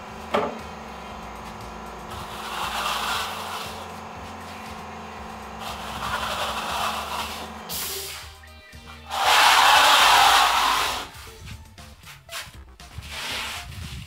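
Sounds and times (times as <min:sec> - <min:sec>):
float scraping cement render: 0:00.1 - 0:14.0.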